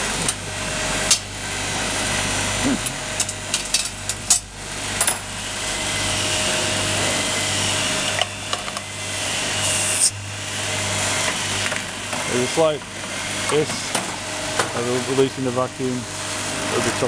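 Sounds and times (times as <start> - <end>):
vacuum pump running: 0.0 - 17.0.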